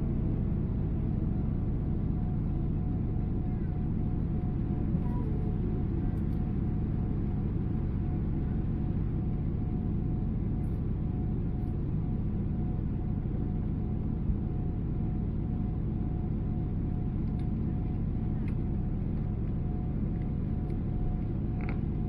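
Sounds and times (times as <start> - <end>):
jet engine cabin roar: 0.0 - 22.0.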